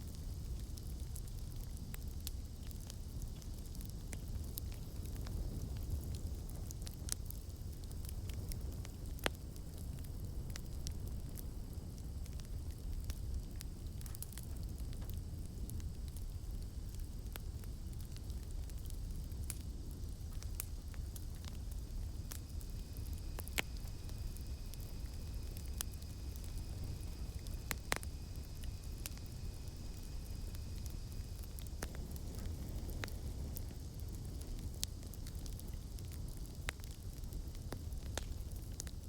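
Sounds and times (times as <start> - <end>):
burning wood crackling and popping: 0.0 - 39.0
campfire flames rumbling: 0.0 - 39.0.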